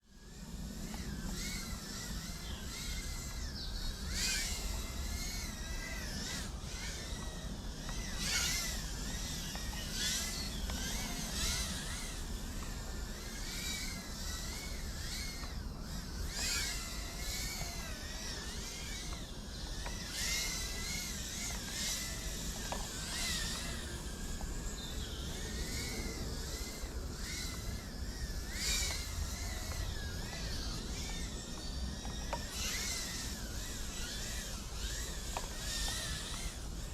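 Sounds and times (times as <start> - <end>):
drone motors whining: 0.0 - 36.9.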